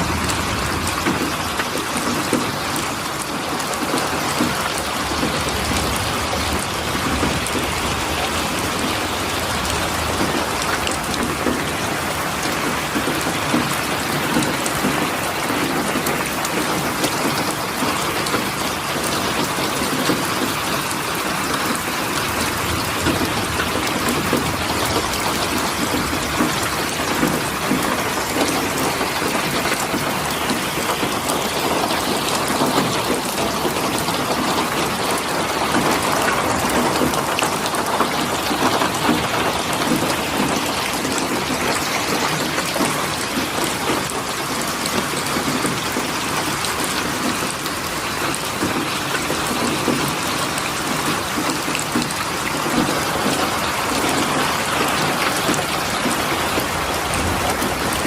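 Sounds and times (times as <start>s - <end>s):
dense rain pattering: 0.0s - 58.0s.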